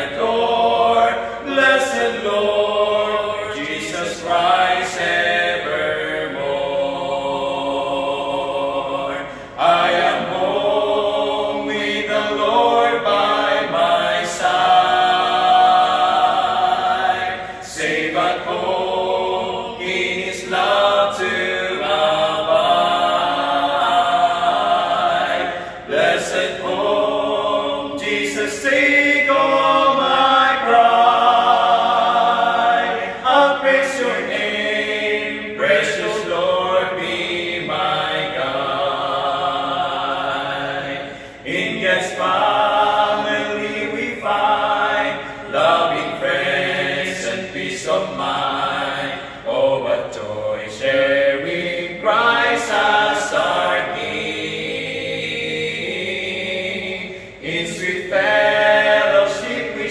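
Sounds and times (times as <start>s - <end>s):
male vocal quartet singing a cappella: 0.0s - 59.9s.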